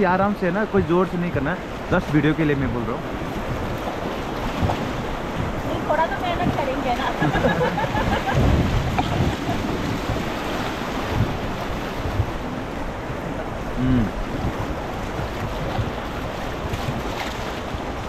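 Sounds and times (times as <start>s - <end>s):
paddles splashing water: 0.0s - 18.0s
whitewater rushing: 0.0s - 18.0s
wind on microphone: 1.6s - 18.0s.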